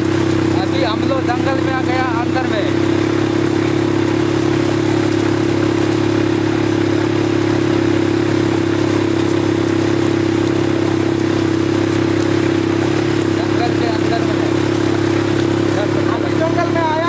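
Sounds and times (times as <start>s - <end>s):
quad bike engine droning: 0.0s - 17.0s.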